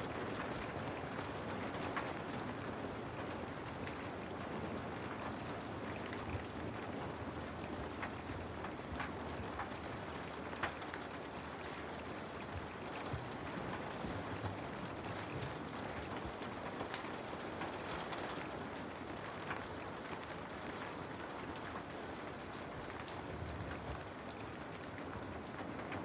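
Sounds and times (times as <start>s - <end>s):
raindrops tapping on a window: 0.0s - 26.0s
steady rain: 0.0s - 26.0s.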